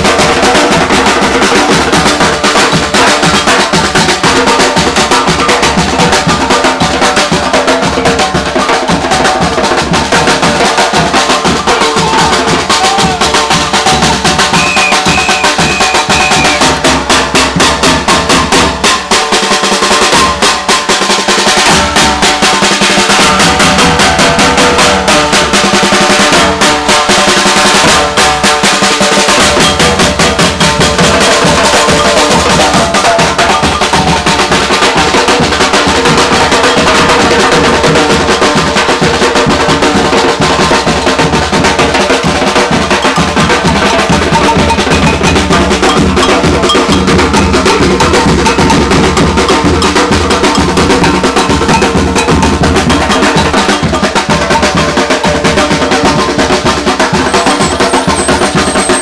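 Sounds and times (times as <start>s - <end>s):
percussion group playing drums: 0.0s - 59.0s.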